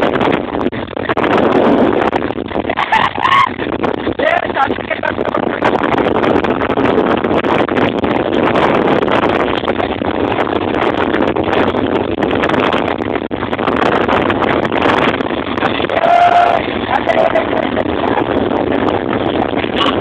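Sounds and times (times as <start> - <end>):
wind noise on microphone: 0.0 - 20.0
motorcycle engine running: 3.6 - 20.0.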